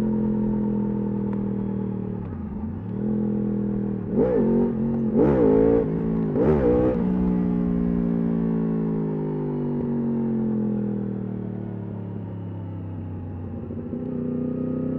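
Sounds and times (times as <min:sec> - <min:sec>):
motorcycle engine decelerating: 0:00.0 - 0:14.9.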